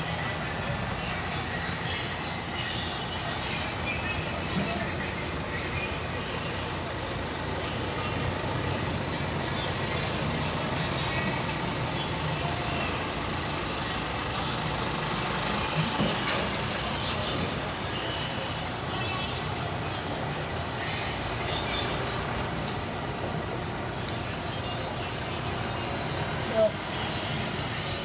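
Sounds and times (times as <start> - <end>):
heavy diesel engine rumbling: 0.0 - 28.0.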